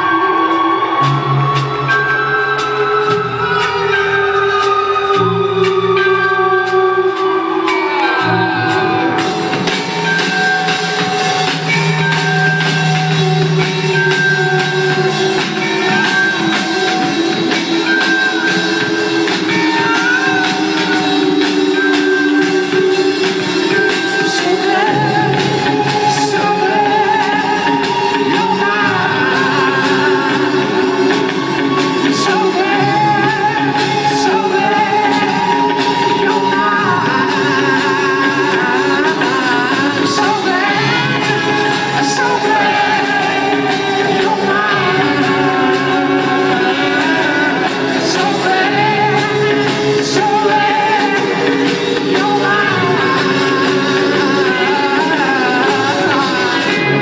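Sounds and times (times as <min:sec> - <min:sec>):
rock band playing live with singing: 0:00.0 - 0:57.0.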